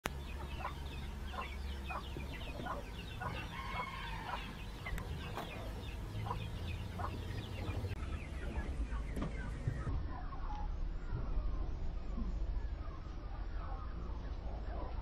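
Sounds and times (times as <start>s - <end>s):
bird calls: 0.1s - 15.0s
high bird chirping: 0.1s - 15.0s
low steady rumble: 0.1s - 15.0s.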